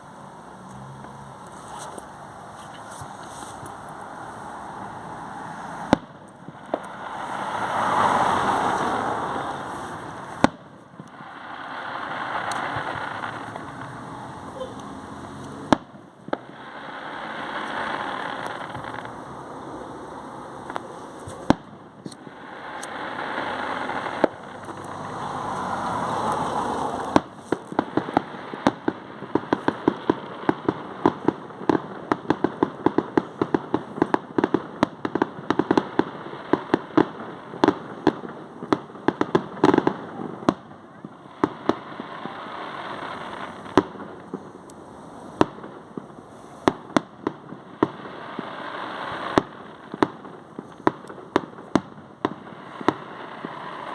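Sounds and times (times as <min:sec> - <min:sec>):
fireworks bangs and crackles: 0:00.0 - 0:53.9
steady hiss: 0:00.0 - 0:53.9.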